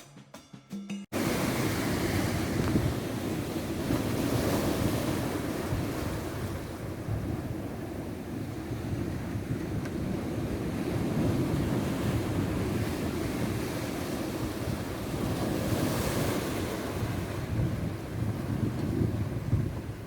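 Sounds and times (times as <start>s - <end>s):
surf washing onto beach: 1.1s - 20.0s
wind rumble on microphone: 1.2s - 20.0s.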